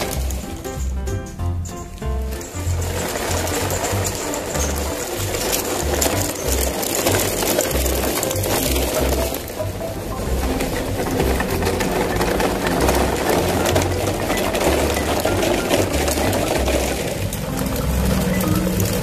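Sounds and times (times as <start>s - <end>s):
background music: 0.0s - 19.0s
toy truck wheels rattling on gravel: 0.0s - 19.0s.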